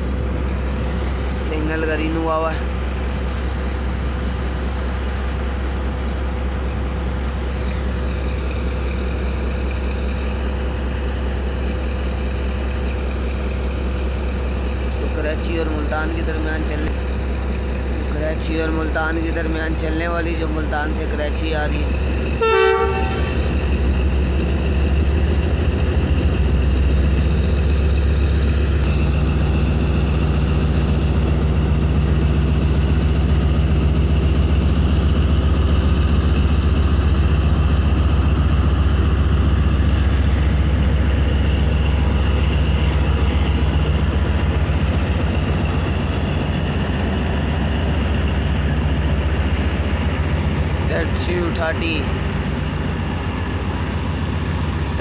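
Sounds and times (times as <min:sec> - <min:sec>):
locomotive engine droning: 0:00.0 - 0:55.0.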